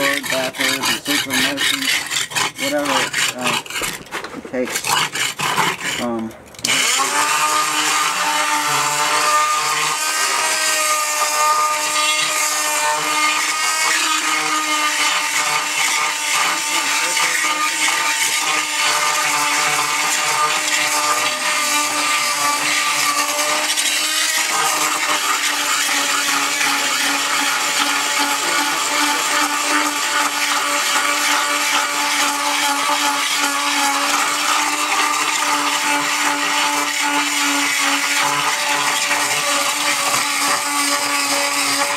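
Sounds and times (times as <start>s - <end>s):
multi-tool buzzing and scraping mortar: 0.0s - 41.9s.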